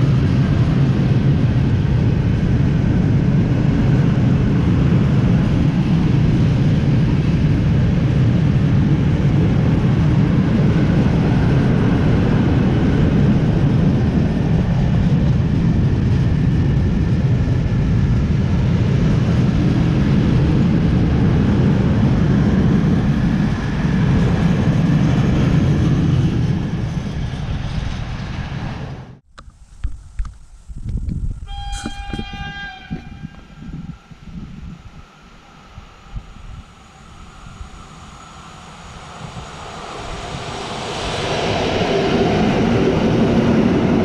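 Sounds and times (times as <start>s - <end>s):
train wheels rumbling on rails: 0.0s - 29.1s, 29.9s - 44.0s.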